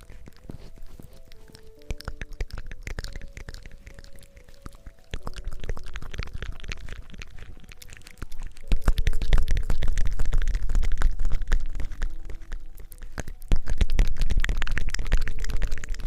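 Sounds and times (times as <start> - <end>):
close-miked crackling and rubbing: 0.0 - 16.0
faint soft tones: 0.0 - 16.0.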